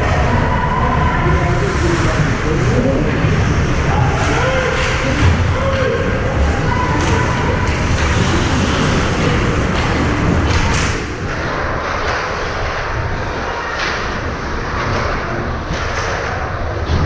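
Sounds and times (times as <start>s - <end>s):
rumble and scrape of hockey play: 0.0s - 17.0s.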